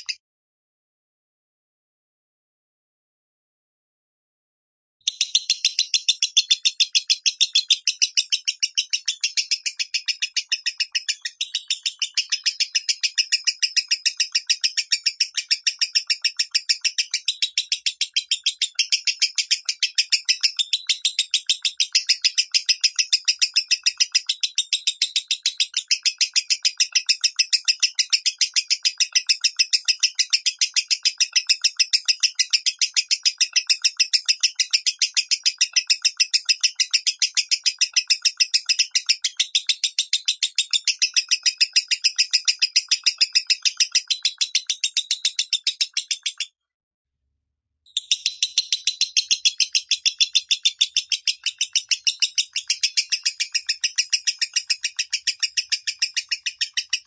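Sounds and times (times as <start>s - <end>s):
lovebird chirping: 0.0s - 0.2s, 5.1s - 46.5s, 47.9s - 57.0s.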